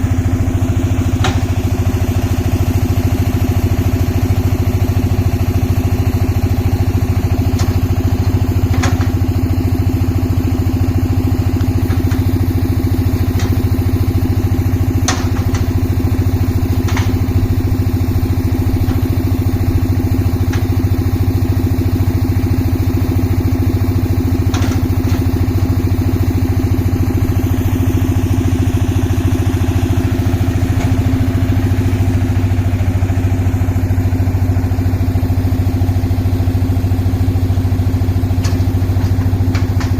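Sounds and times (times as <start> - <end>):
concrete mixer engine running: 0.0 - 39.9.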